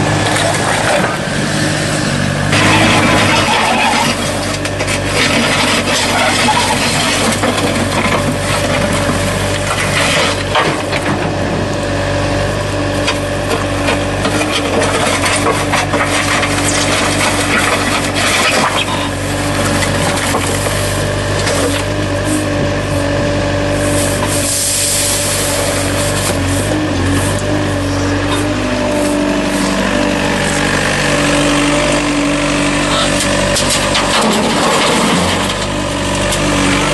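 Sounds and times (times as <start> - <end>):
rough scraping and rasping: 0.0 - 11.6, 13.0 - 36.9
machinery engine running: 0.0 - 36.9.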